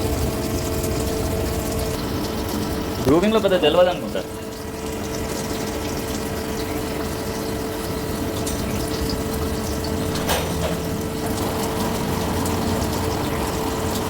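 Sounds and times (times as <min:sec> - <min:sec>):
coolant flowing: 0:00.0 - 0:14.0
lathe and coolant pump humming: 0:00.0 - 0:14.0.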